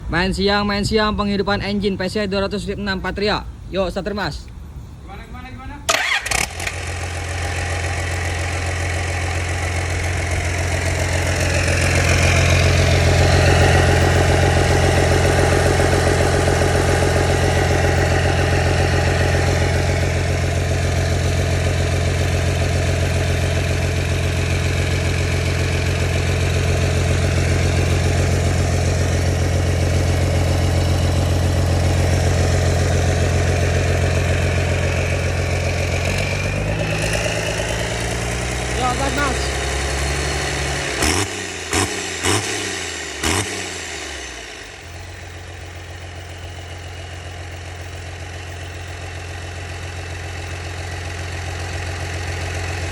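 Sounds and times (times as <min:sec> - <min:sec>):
excavator diesel engine idling: 0:00.0 - 0:52.9.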